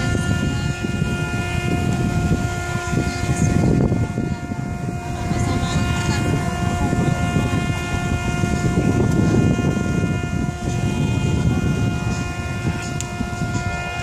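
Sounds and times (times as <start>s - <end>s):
ship's horn blast: 0.0s - 14.0s.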